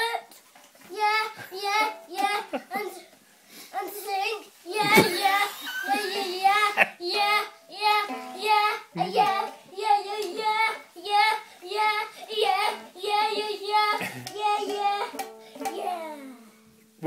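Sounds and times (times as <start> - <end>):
young child singing: 0.0 - 3.1, 3.7 - 16.7.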